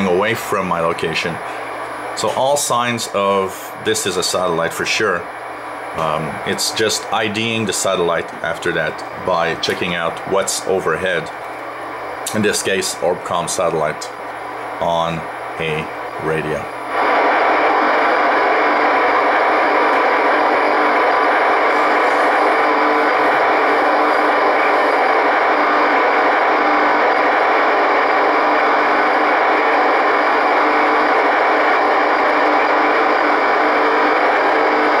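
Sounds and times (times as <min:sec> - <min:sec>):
radio hiss: 0:00.0 - 0:35.0.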